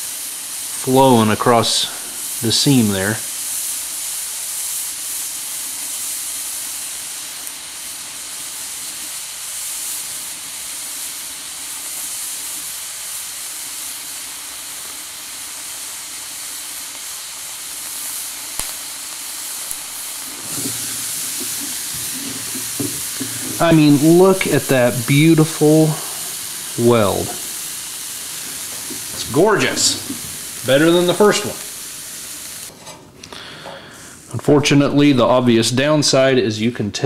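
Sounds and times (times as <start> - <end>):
welding torch hissing: 0.0 - 36.7.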